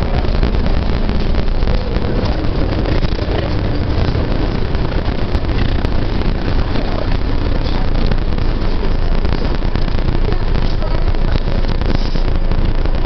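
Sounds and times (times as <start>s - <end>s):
bus engine rumble: 0.0s - 13.0s
road noise hiss: 0.0s - 13.0s.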